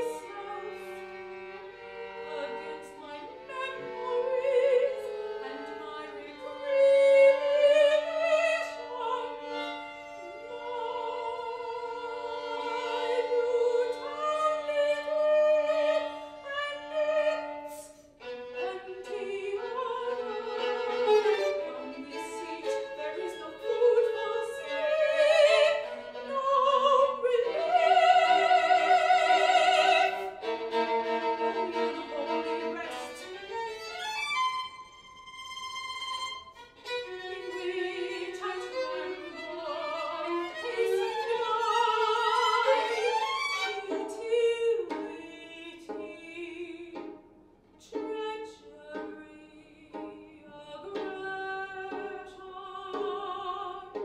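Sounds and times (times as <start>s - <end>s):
woman singing operatically: 0.0s - 1.1s, 2.2s - 30.4s, 31.5s - 33.6s, 37.2s - 47.1s, 47.8s - 54.0s
violin playing with vibrato: 0.0s - 47.2s, 47.8s - 54.0s.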